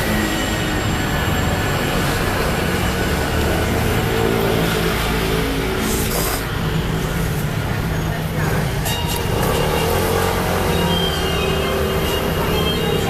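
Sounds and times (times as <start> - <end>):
street traffic noise: 0.0 - 13.0
vehicle engine running: 0.0 - 13.0.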